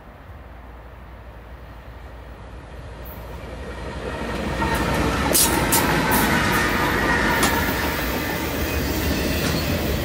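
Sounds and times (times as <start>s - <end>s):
diesel locomotive engine rumble: 0.0s - 10.0s
train wheel and rail noise: 0.0s - 10.0s.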